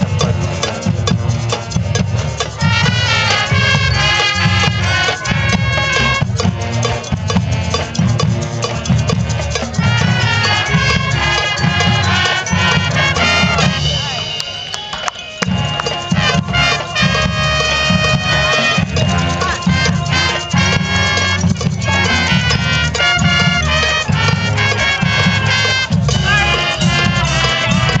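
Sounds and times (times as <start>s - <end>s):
marching band playing: 0.0s - 28.0s.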